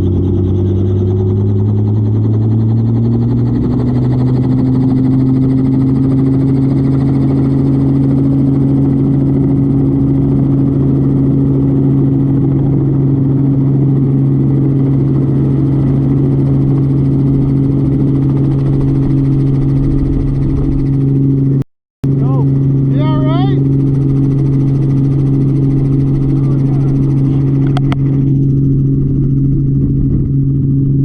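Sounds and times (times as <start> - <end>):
engine humming steadily: 0.0 - 31.0.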